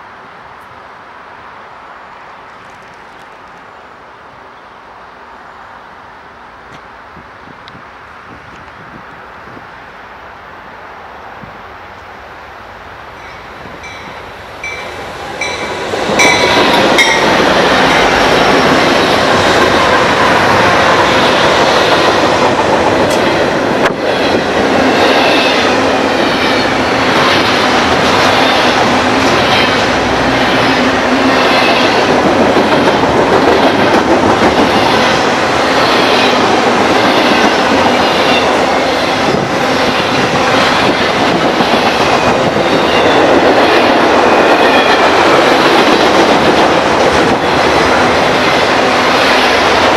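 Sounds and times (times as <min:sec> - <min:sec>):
train passing: 0:00.0 - 0:49.9.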